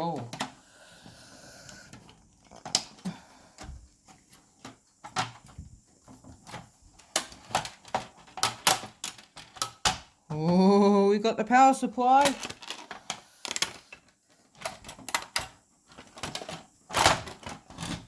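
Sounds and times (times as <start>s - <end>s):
plastic parts clicking and knocking: 0.0s - 0.6s, 1.6s - 10.6s, 12.0s - 18.0s.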